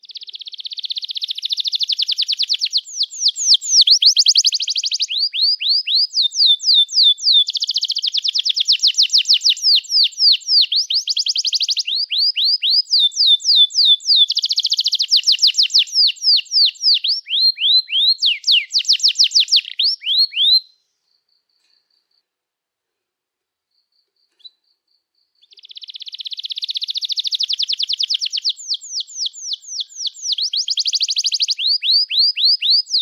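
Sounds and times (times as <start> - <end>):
canary singing: 0.0 - 20.8, 25.4 - 33.0.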